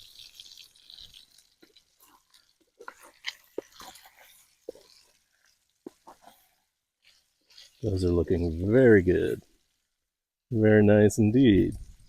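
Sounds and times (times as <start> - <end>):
sausages frying in a pan: 0.0 - 12.0.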